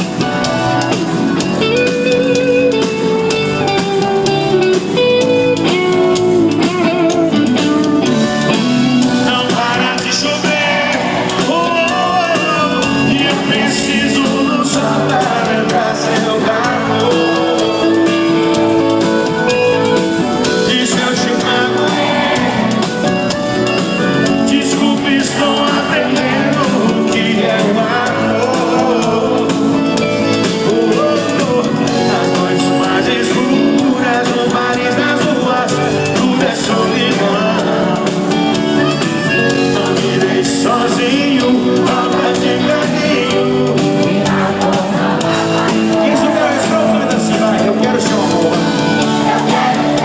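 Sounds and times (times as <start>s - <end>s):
guitar: 0.0s - 50.0s
steady drum beat: 0.0s - 50.0s
person singing: 1.6s - 50.0s.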